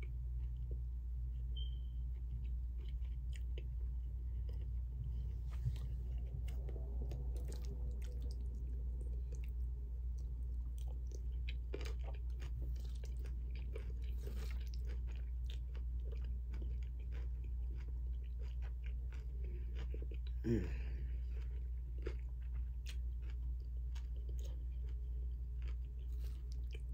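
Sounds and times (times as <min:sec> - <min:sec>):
low hum: 0:00.0 - 0:26.9
person chewing food: 0:00.0 - 0:26.9.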